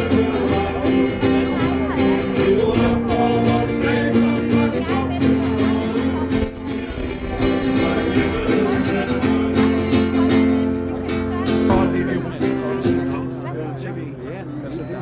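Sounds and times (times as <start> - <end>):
guitar strumming chords: 0.0 - 13.8.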